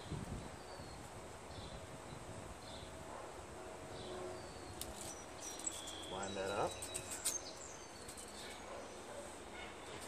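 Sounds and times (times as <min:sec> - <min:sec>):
small birds chirping: 0:00.0 - 0:03.0, 0:03.9 - 0:10.0.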